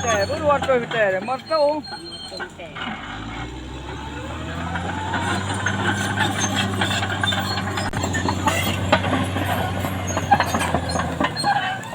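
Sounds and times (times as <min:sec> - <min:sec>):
bulldozer diesel engine running: 0:00.0 - 0:11.9
steel tracks clanking and squeaking: 0:00.0 - 0:11.9.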